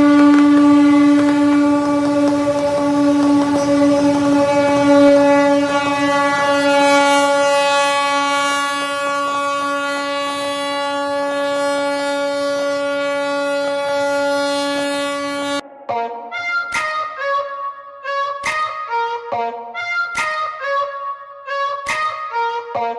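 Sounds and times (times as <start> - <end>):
ship's horn blast: 0.0 - 22.9.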